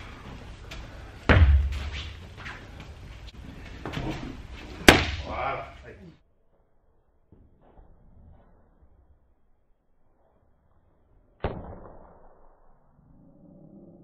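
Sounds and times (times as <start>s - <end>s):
gym room noise: 0.0s - 14.0s.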